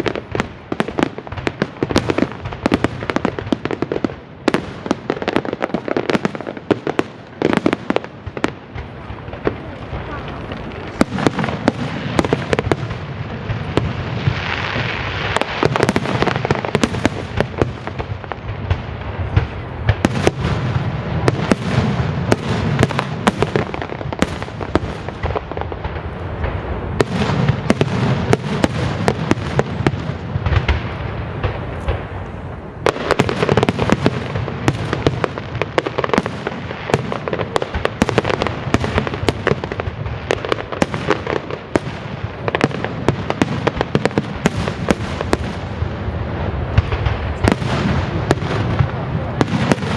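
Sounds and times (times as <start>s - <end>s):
deep fireworks booms: 0.0s - 49.9s
fireworks cracking and popping: 0.0s - 49.9s.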